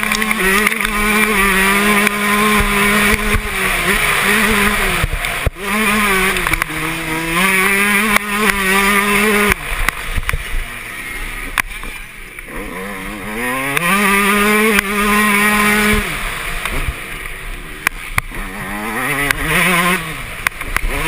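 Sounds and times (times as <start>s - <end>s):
motocross engine revving: 0.0s - 21.0s.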